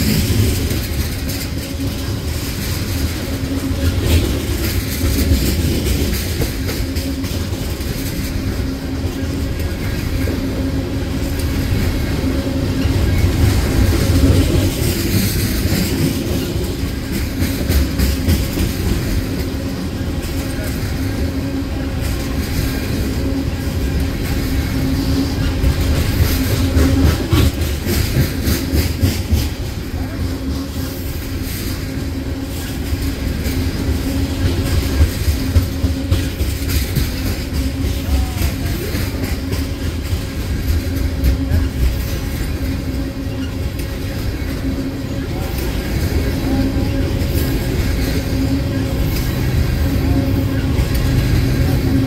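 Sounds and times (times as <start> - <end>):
steel wheels rumbling on rail: 0.0 - 52.0
wheels clicking over rail joints: 0.0 - 52.0.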